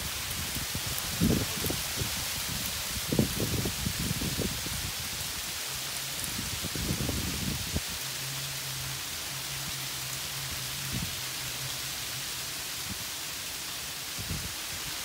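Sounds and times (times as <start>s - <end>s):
freezing rain falling: 0.0s - 15.0s.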